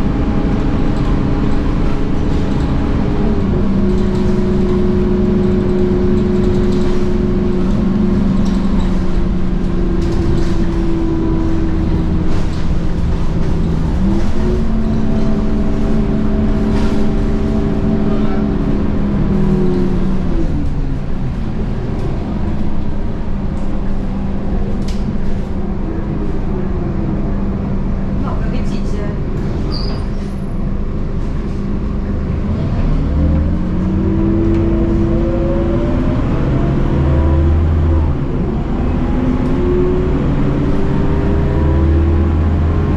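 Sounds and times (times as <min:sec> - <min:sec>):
bus diesel engine under load: 0:00.0 - 0:42.9.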